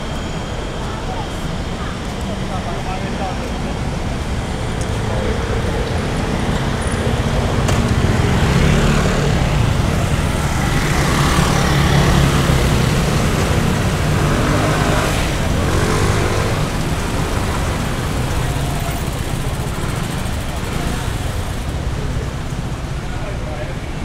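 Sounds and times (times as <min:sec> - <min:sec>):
rumble of passing traffic: 0:00.0 - 0:24.0.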